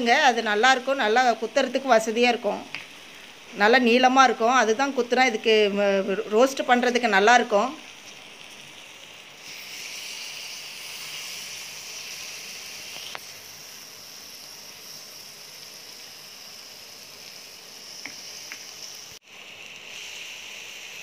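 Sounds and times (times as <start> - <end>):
food sizzling on a hot griddle: 0.0 - 21.0.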